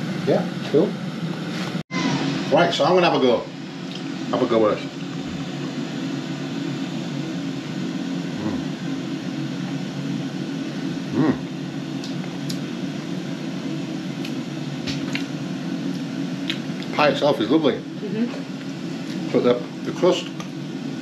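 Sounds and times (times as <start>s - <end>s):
air fryer fan humming: 0.0s - 21.0s.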